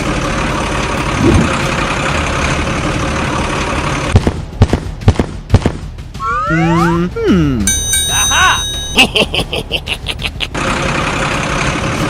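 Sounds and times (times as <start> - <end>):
vehicle engine running: 0.0 - 7.9, 8.6 - 12.0.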